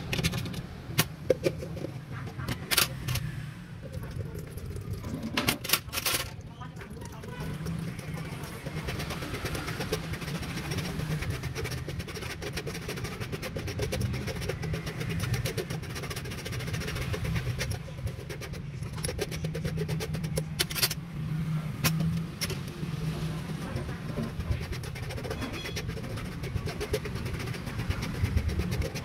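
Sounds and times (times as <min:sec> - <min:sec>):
street traffic hum: 0:00.0 - 0:29.0
metal spoon scraping metal filter: 0:00.1 - 0:03.3, 0:03.9 - 0:21.0, 0:21.8 - 0:29.0.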